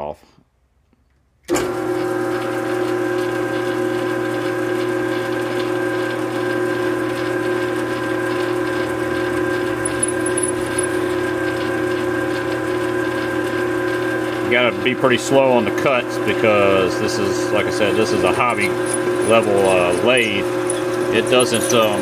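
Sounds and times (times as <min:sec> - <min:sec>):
metal lathe motor whining: 0:01.5 - 0:22.0.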